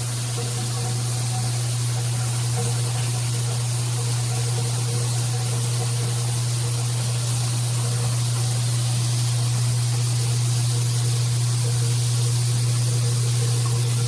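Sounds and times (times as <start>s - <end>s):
shower head spraying water: 0.0s - 14.0s.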